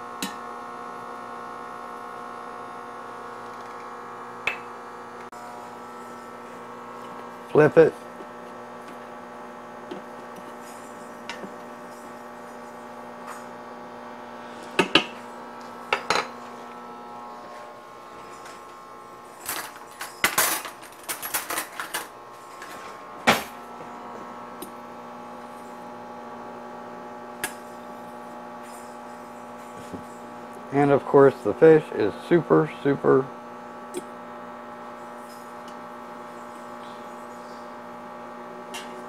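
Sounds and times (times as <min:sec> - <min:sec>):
steady electrical hum: 0:00.0 - 0:39.0.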